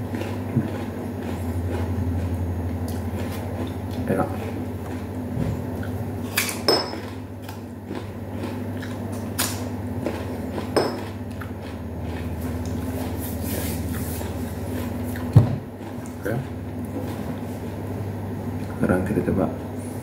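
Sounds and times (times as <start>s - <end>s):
man chewing fruit: 0.0s - 18.8s
steady low hum: 0.0s - 20.0s.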